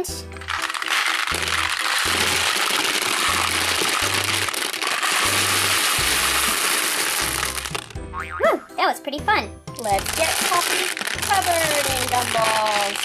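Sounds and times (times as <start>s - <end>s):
gumballs pouring and rattling: 0.0s - 8.0s, 9.8s - 13.0s
children's background music: 0.0s - 13.0s.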